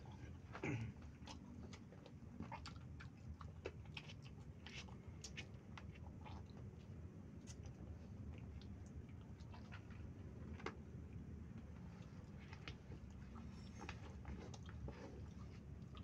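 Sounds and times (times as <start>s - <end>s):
low background hum: 0.0s - 16.0s
wet chewing and smacks: 0.1s - 16.0s.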